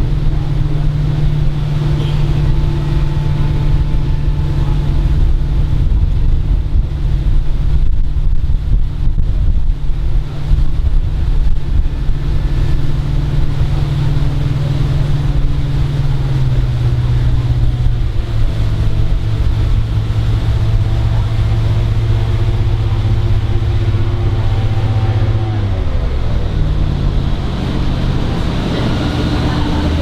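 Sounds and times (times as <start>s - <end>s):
boat engine drone: 0.0s - 30.0s
water rushing past: 0.0s - 30.0s
wind rushing: 0.0s - 30.0s.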